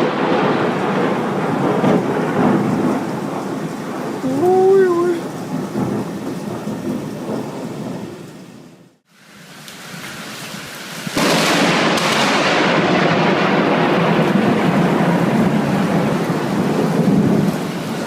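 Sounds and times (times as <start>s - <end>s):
thunder rumbling: 0.0s - 9.0s, 11.1s - 18.0s
rain: 0.0s - 18.0s.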